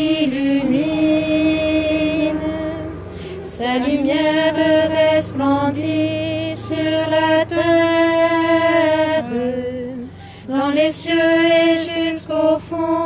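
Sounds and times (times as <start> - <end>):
woman singing a hymn: 0.0 - 13.0.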